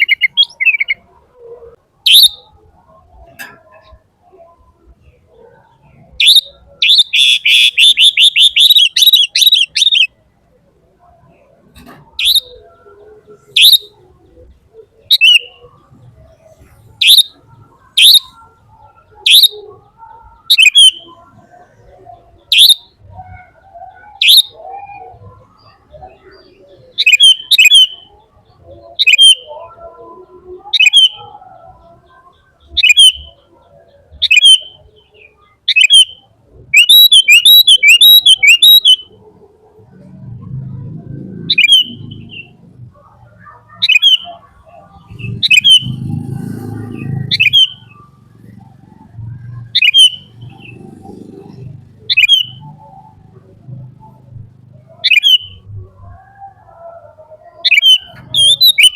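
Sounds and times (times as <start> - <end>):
bird chirping: 0.0 - 58.9.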